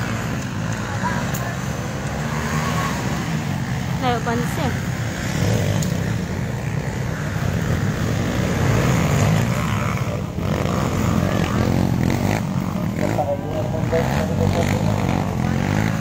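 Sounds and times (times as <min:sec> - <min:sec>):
dirt bike engines droning: 0:00.0 - 0:16.0.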